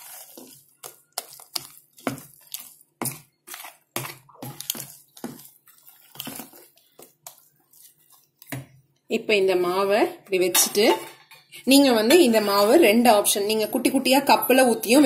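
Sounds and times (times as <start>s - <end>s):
spoon stirring thick batter: 0.0s - 15.0s.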